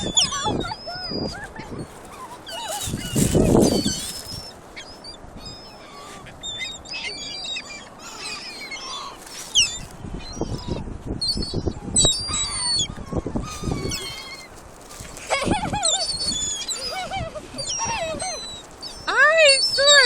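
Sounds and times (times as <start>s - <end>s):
gulls calling: 0.0s - 20.0s.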